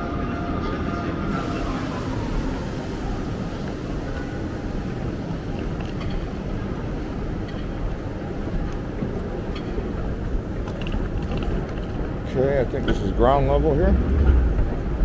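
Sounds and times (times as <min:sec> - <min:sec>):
station concourse rumble: 0:00.0 - 0:15.0.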